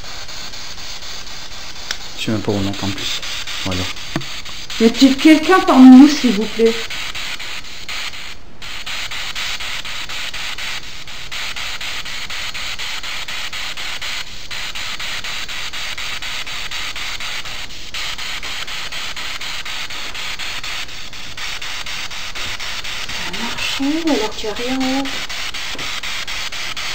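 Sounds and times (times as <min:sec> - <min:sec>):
radio static hiss: 0:00.0 - 0:26.9.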